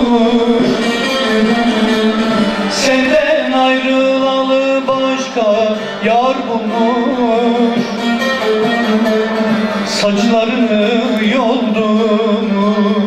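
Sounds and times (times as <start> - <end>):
lute playing: 0.0 - 13.0
man singing: 0.0 - 13.0.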